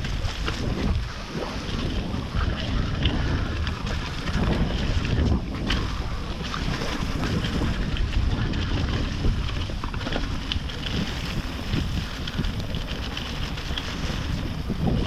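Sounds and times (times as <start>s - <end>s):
wind buffeting microphone: 0.0s - 15.0s
bike clicks and rattles: 2.5s - 15.0s.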